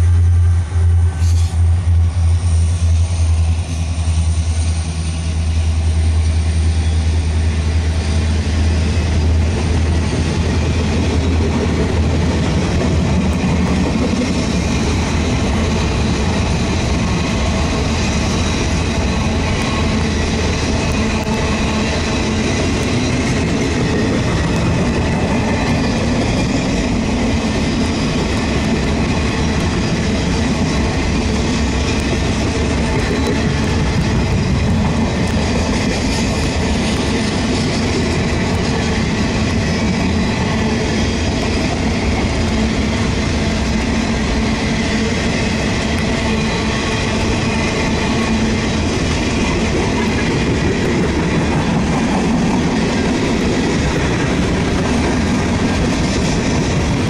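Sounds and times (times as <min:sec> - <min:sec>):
freight train rumbling past: 0:00.0 - 0:57.0
steel wheels rattling on rails: 0:00.0 - 0:57.0.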